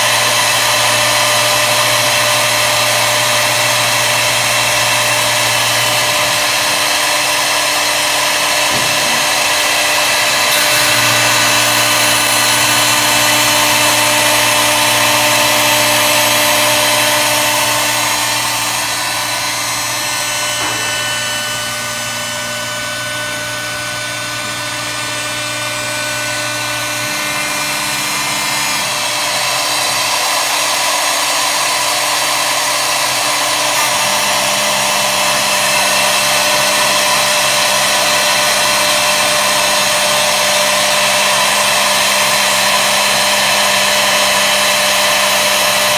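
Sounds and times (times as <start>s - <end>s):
router spindle whine: 0.0s - 45.9s
wood cutting noise: 0.0s - 45.9s.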